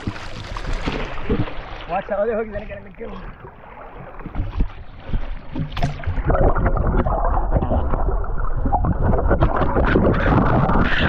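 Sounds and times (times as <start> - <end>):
muffled underwater rush: 0.0 - 11.0
water splashing against boat hull: 0.0 - 11.0.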